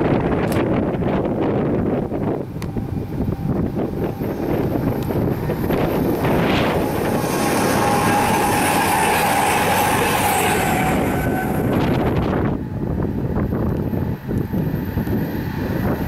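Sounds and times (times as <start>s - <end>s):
train passing at speed: 0.0s - 16.0s
train whine: 0.0s - 16.0s.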